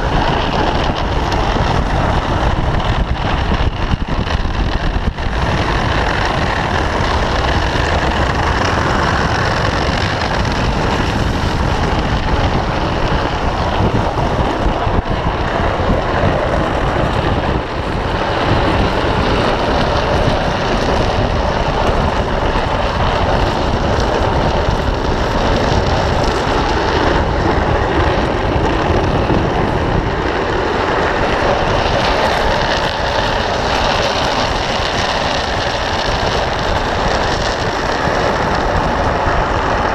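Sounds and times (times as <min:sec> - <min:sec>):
trike wheels scraping on asphalt: 0:00.0 - 0:39.9.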